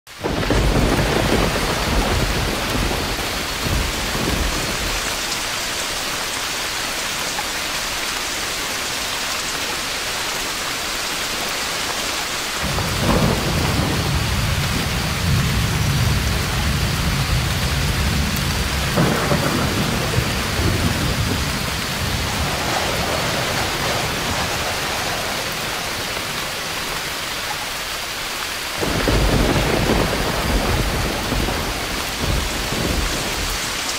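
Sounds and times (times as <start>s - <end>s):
heavy rain: 0.0s - 33.9s
thunder rumbling: 0.1s - 6.7s, 12.6s - 33.9s.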